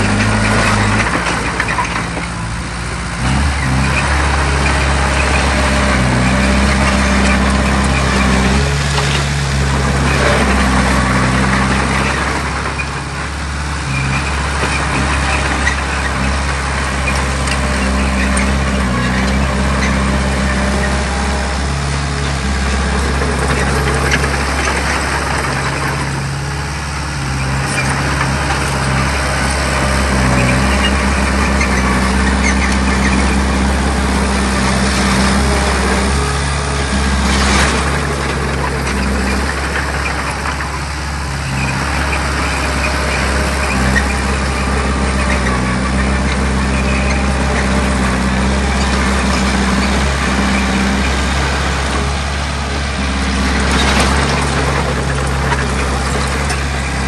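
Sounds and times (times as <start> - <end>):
clatter and scraping: 0.0 - 57.0
heavy diesel engine running: 0.0 - 57.0.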